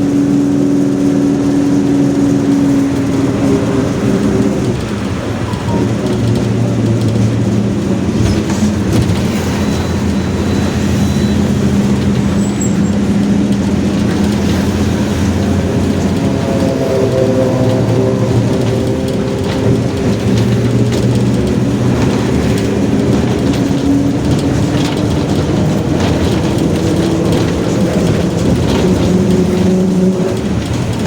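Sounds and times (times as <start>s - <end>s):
diesel bus engine: 0.0s - 31.0s
road and body rumble: 0.0s - 31.0s
differential growling: 1.8s - 31.0s.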